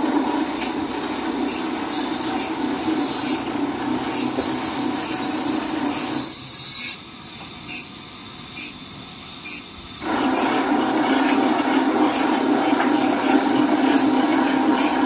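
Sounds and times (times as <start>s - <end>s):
sawmill machinery rumbling: 0.0s - 15.0s.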